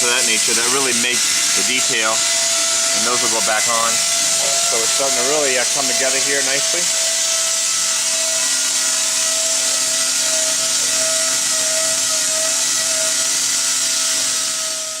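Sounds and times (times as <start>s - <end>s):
constant humming tone: 0.0s - 15.0s
high hiss: 0.0s - 15.0s
machine whirring: 0.0s - 15.0s.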